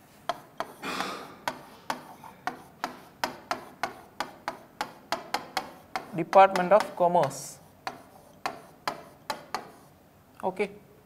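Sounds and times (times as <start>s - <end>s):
pen tapping on a writing board: 0.2s - 9.8s.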